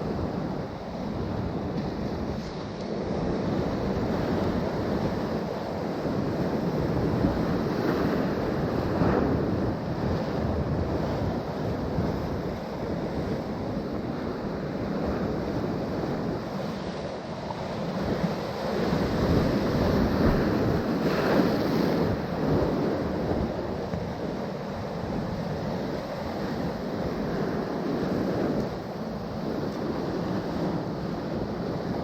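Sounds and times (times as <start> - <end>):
surf washing on shore: 0.0 - 32.0
wind noise on microphone: 0.0 - 32.0.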